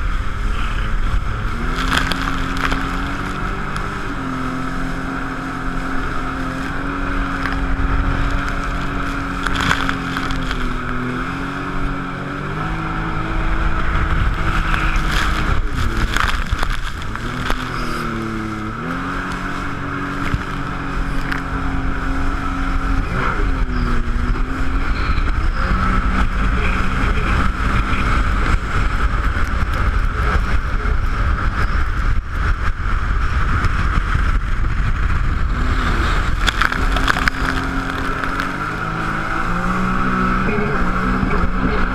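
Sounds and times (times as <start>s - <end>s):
jet ski engine revving: 0.0s - 41.9s.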